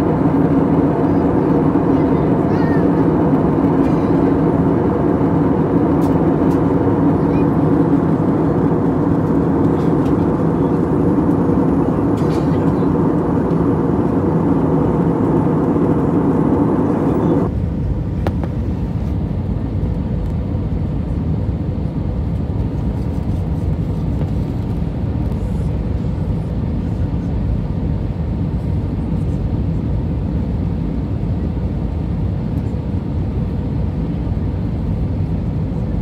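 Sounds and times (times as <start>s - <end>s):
airliner cabin engine rush: 0.0s - 36.0s.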